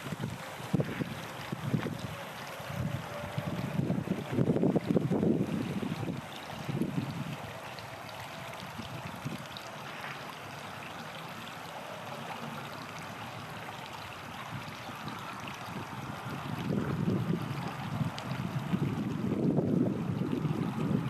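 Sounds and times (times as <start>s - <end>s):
wind rumble on microphone: 0.0s - 10.3s, 14.3s - 21.0s
river water rushing over stones: 0.0s - 21.0s.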